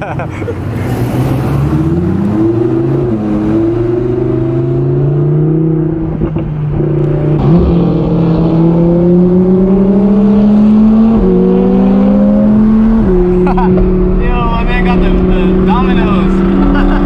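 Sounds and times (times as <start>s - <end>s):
car engine and exhaust accelerating: 0.0s - 17.0s.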